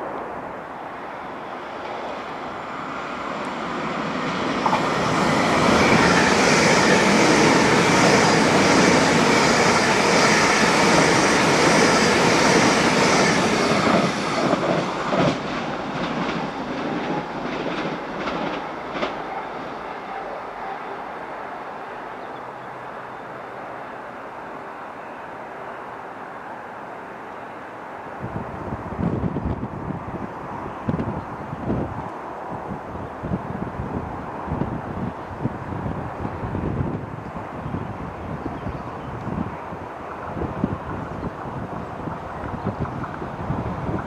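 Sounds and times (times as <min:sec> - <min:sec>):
train wheels rushing on rail: 0:00.0 - 0:21.4, 0:27.4 - 0:44.0.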